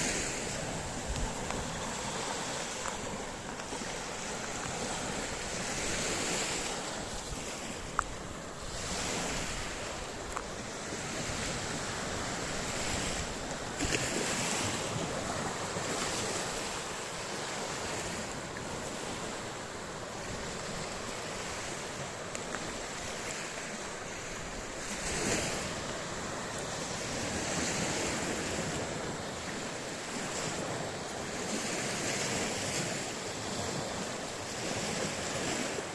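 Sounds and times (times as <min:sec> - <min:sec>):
sea waves breaking on shore: 0:00.0 - 0:35.9
wind buffeting microphone: 0:00.0 - 0:35.9.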